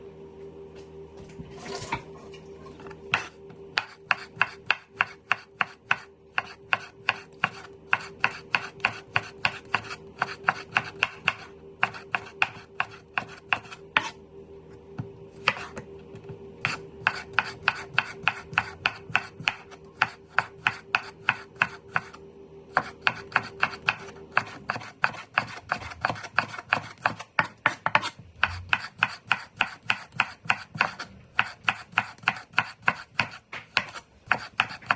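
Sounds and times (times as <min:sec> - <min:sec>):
steady low hum: 0:00.0 - 0:34.9
knife chopping on cutting board: 0:03.1 - 0:14.2, 0:15.0 - 0:34.9.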